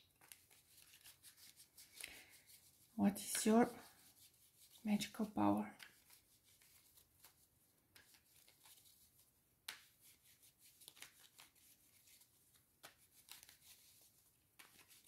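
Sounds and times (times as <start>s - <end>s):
cards slapping and rustling: 0.0s - 4.8s, 5.7s - 15.0s.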